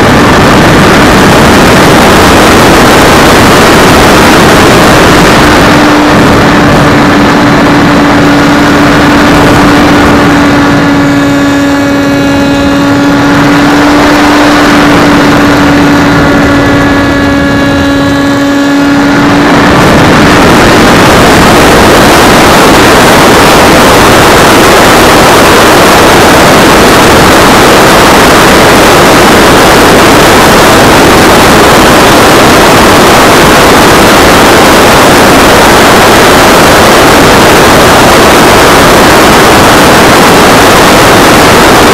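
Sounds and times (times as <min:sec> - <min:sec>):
electric motor and propeller whine: 0:00.0 - 0:41.9
wind rush on microphone: 0:00.0 - 0:41.9.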